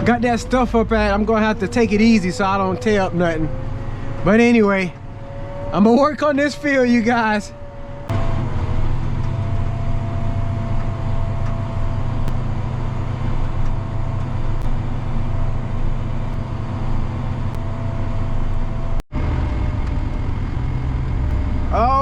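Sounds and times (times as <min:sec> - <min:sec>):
engine running under load: 0:00.0 - 0:22.0.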